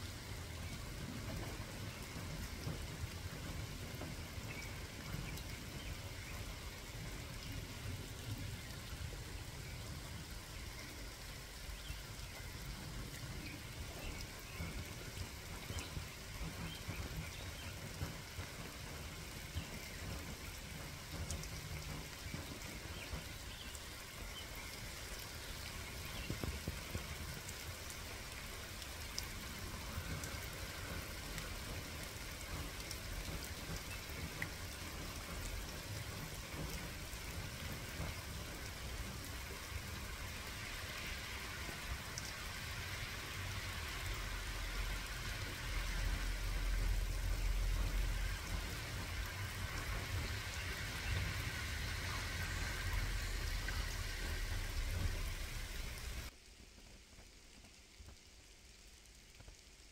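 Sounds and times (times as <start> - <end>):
raindrops ticking: 0.0 - 59.9
steady rain hiss: 0.0 - 59.9.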